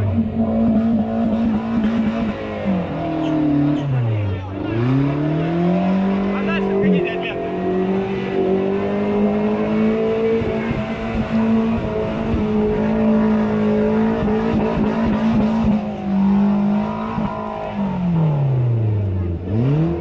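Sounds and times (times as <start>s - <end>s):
off-road engine revving high: 0.0s - 20.0s.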